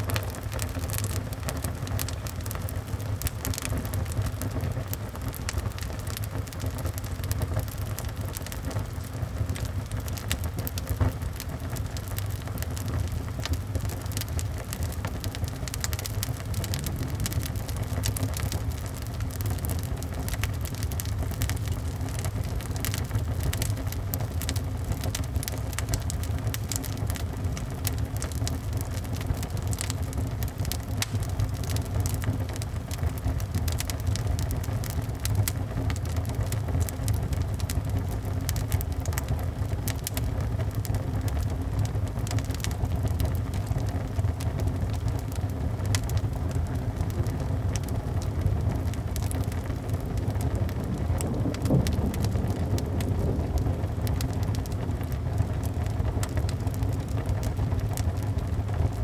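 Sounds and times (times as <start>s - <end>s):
steady low rumble: 0.0s - 59.0s
wood fire crackling: 0.0s - 59.0s.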